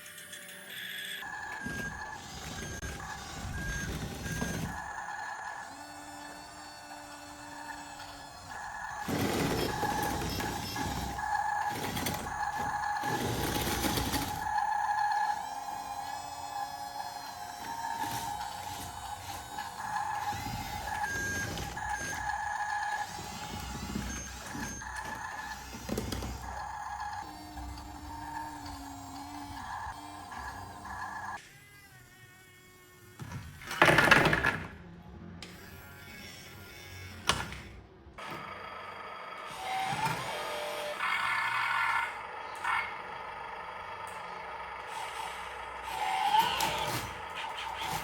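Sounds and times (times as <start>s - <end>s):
electric motors whining: 0.0s - 33.9s, 35.4s - 48.0s.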